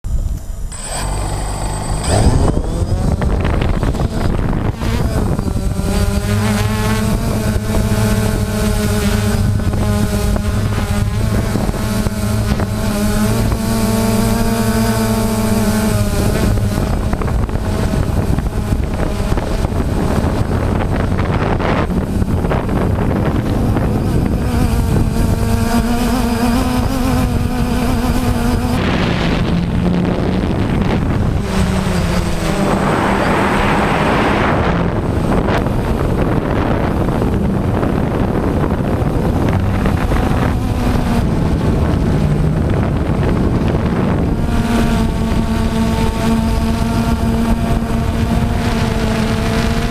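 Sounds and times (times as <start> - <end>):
drone motors whining: 0.1 - 49.9
wind buffeting microphone: 0.1 - 49.9.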